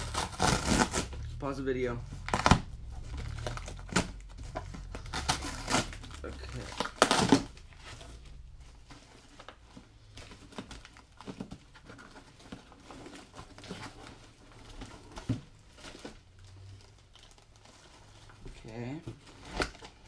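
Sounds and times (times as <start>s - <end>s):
plastic wrap crinkling: 0.0s - 18.7s.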